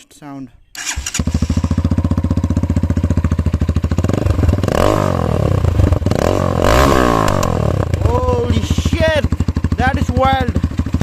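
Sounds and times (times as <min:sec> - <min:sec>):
motorcycle engine revving: 0:00.8 - 0:11.0.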